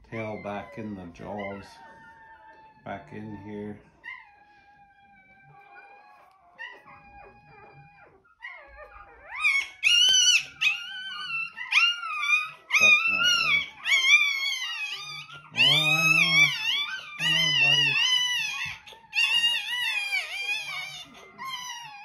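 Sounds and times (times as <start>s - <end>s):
puppy whining and squealing: 0.0s - 22.0s.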